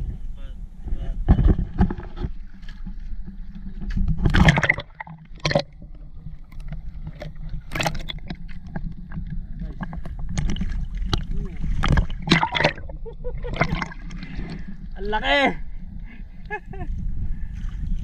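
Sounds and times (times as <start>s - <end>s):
water splashes: 1.3s - 15.8s
sea water sloshing: 1.3s - 18.0s.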